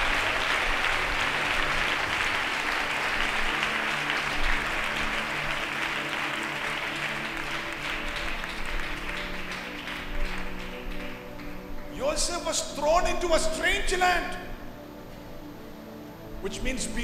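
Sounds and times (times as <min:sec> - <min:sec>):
congregation applauding: 0:00.0 - 0:16.2
faint sustained musical tones: 0:00.0 - 0:17.0.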